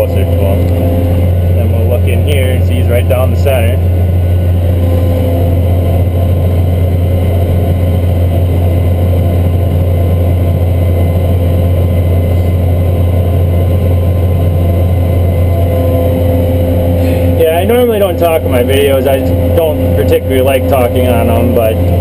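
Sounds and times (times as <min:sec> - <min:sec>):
faint steady whine: 0:00.0 - 0:22.0
tractor engine low drone: 0:00.0 - 0:22.0.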